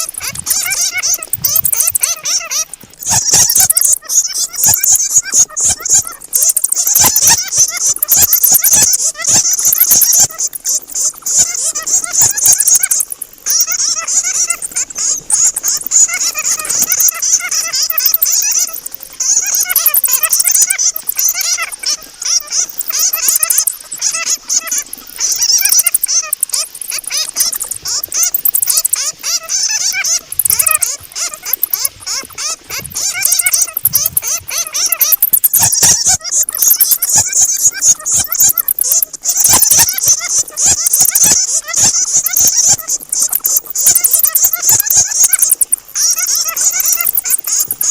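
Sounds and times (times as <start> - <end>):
fruit bats squeaking and chattering: 0.0 - 47.9.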